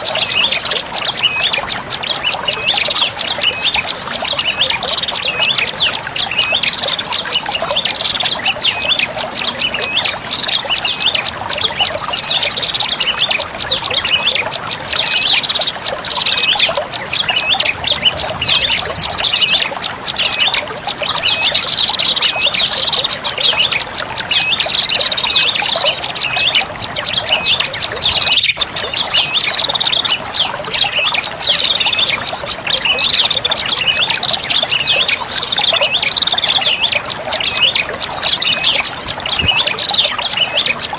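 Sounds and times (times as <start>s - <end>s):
bird chattering trill: 0.0s - 40.9s.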